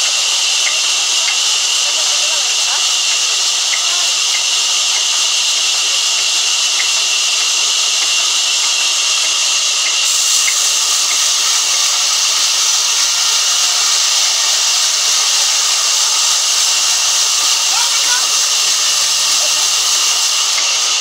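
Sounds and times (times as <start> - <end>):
band saw cutting log: 0.0 - 21.0.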